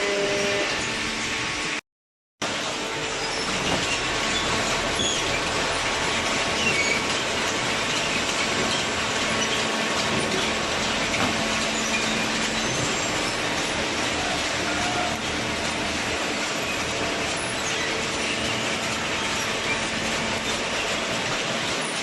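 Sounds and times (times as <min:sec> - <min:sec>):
baler machinery running: 0:02.4 - 0:22.0.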